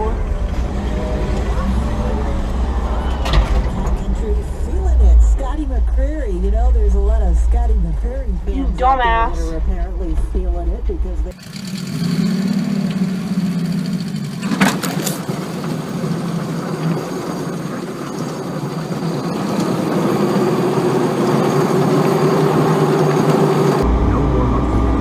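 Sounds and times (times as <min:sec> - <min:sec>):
pickup truck engine under load: 0:00.0 - 0:07.2, 0:11.3 - 0:25.0.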